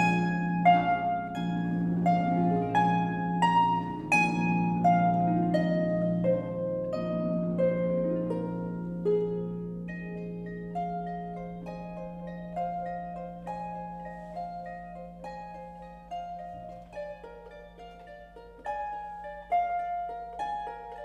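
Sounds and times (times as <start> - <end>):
harp melody: 0.0 - 21.0.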